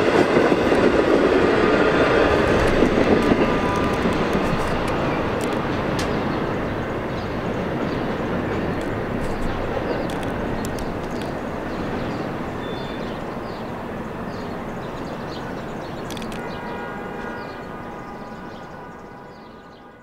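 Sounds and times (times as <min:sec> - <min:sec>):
passenger train rumbling: 0:00.0 - 0:20.0.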